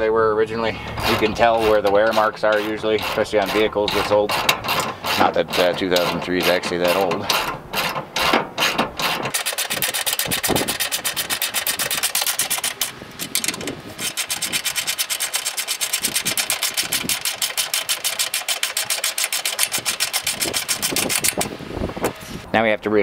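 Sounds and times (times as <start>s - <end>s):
hand ratchet clicking: 1.0s - 21.5s.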